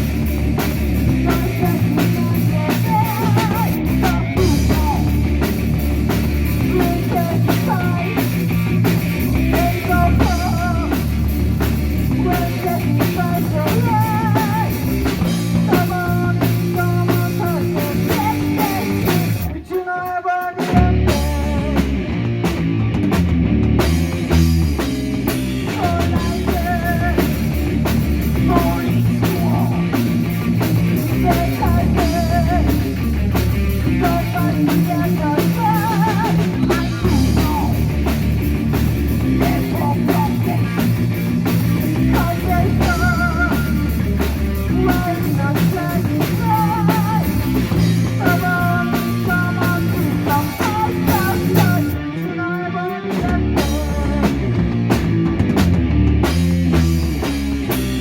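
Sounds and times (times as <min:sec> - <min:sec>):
drum kit played hard and fast: 0:00.0 - 0:52.2, 0:53.0 - 0:58.0
heavy metal band playing: 0:00.0 - 0:58.0.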